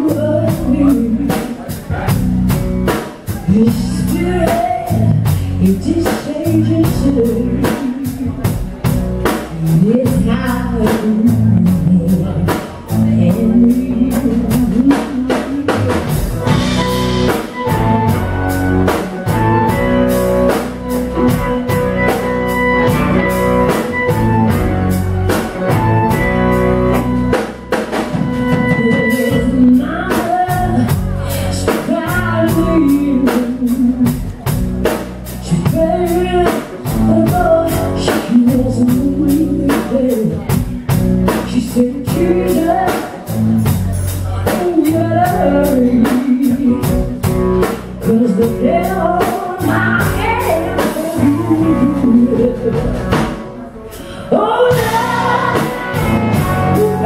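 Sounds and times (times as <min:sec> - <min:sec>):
woman singing: 0:00.0 - 0:02.1, 0:03.3 - 0:20.6, 0:28.1 - 0:34.6, 0:35.4 - 0:57.0
live band playing: 0:00.0 - 0:57.0.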